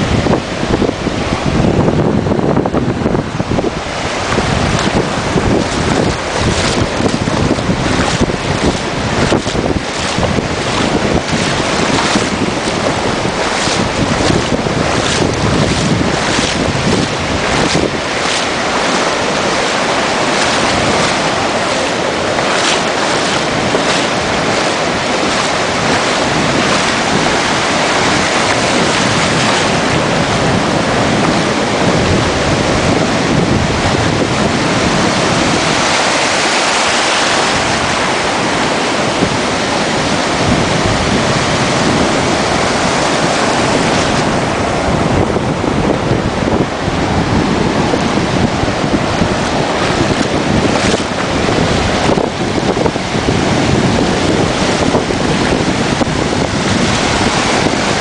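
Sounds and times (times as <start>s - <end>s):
sea waves rushing: 0.0s - 58.0s
wind buffeting microphone: 0.0s - 58.0s.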